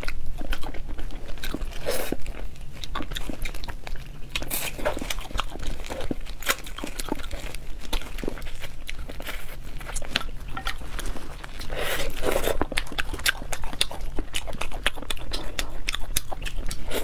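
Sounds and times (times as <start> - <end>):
person chewing with crunches: 0.0 - 17.0.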